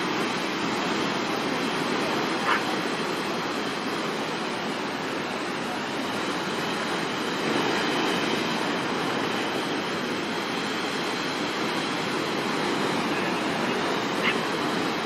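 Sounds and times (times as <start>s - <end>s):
storm surf breaking on shore: 0.0s - 15.0s.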